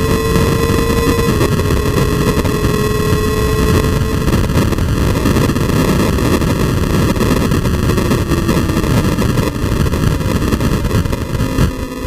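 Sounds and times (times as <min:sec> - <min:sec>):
distorted motorcycle engine and wind: 0:00.0 - 0:12.0.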